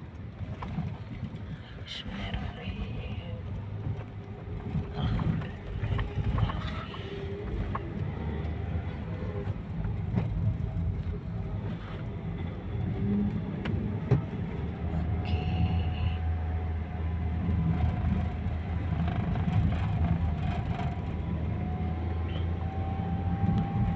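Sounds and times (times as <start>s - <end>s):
road noise: 0.0s - 23.9s
vehicle engine driving: 0.0s - 23.9s.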